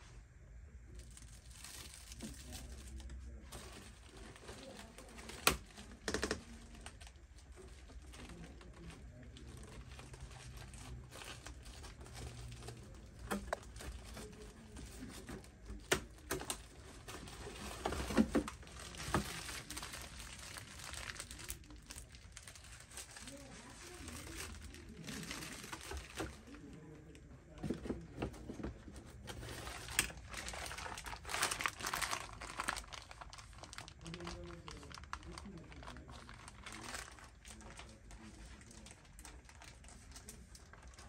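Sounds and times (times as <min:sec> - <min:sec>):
plastic bags crinkling: 0:00.9 - 0:41.0.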